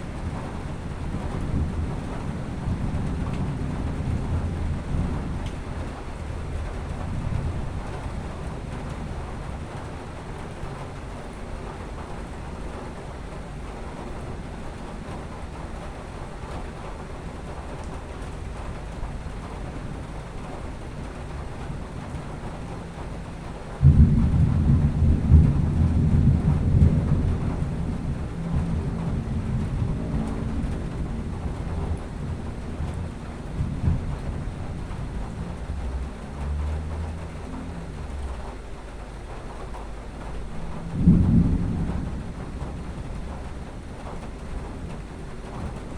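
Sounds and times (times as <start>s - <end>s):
rain: 0.0s - 45.9s
thunder clap rolling: 0.0s - 45.9s.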